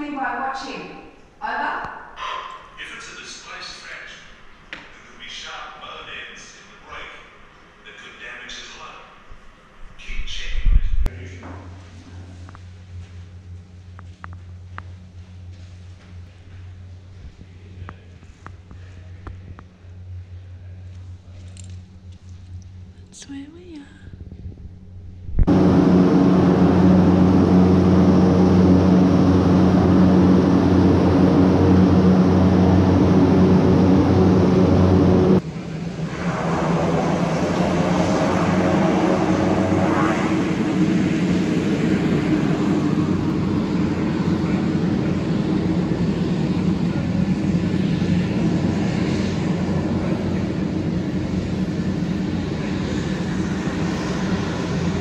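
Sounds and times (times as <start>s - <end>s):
aircraft engines droning: 0.0s - 55.0s
aircraft passing by: 2.2s - 23.3s, 24.0s - 55.0s.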